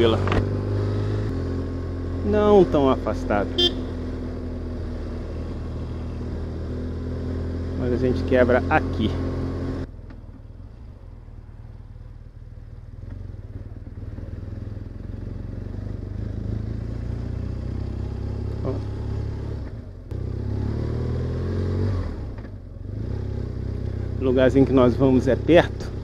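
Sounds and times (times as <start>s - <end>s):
motorcycle engine running: 0.0s - 21.5s, 22.1s - 26.0s.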